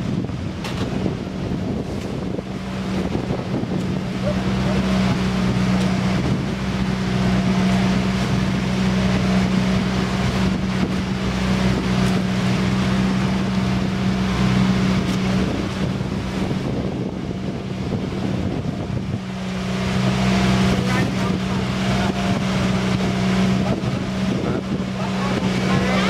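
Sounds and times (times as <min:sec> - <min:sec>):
boat engine droning: 0:00.0 - 0:26.0
water hissing along hull: 0:00.0 - 0:26.0
wind rushing over microphone: 0:00.0 - 0:26.0.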